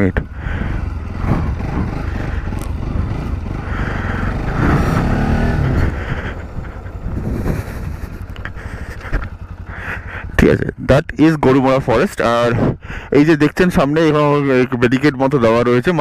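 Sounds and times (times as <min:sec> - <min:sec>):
motorcycle engine: 0:00.0 - 0:16.0
road noise: 0:00.0 - 0:16.0.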